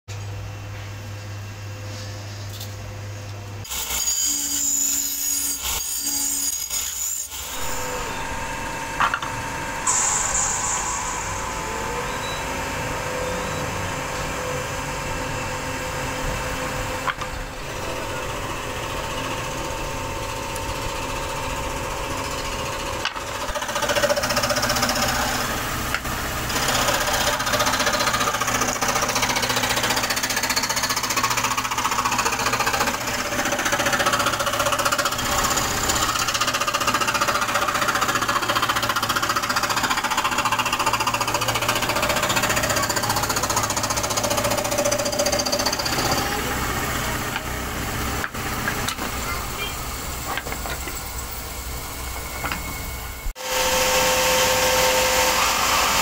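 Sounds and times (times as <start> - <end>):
scroll saw cutting wood: 3.6 - 13.4, 15.9 - 49.5, 53.4 - 56.0.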